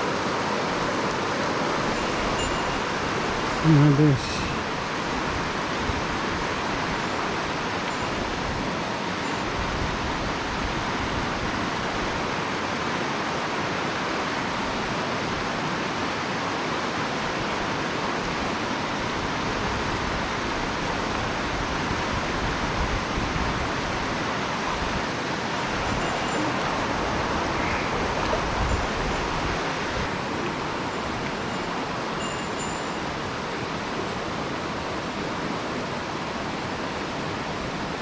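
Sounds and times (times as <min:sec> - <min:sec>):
mountain stream rushing: 0:00.0 - 0:38.0.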